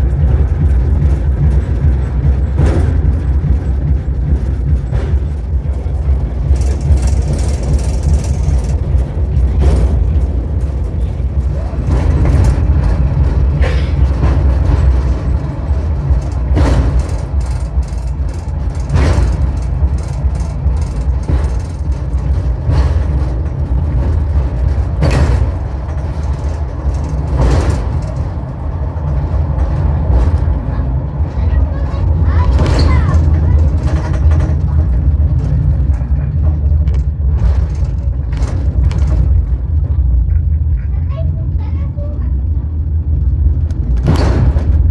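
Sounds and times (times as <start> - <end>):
cable car rumbling: 0.0 - 44.9
rattling clatter: 0.0 - 44.9.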